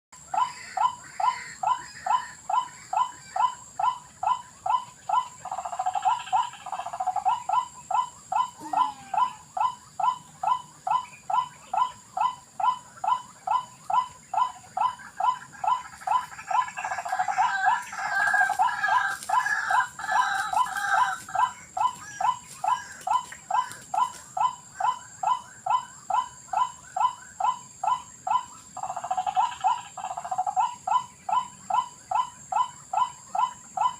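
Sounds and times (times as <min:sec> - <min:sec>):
waterhen croaking calls: 0:00.2 - 0:33.9.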